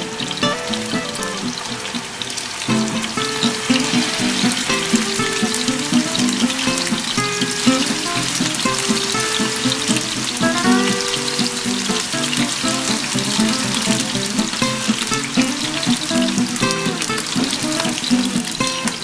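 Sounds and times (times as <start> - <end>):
background music of held notes: 0.0 - 19.0
meat sizzling in hot oil: 0.0 - 19.0.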